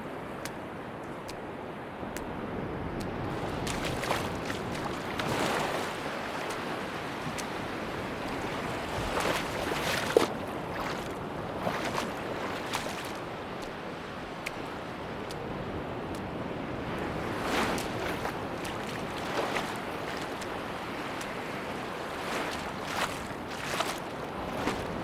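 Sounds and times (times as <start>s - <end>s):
sea waves washing onto beach: 0.0s - 25.0s
small ticks and splashes: 3.0s - 25.0s.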